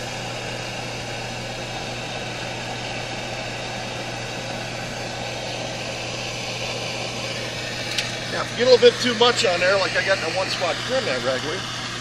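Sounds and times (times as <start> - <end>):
propane torch hissing: 0.0 - 12.0.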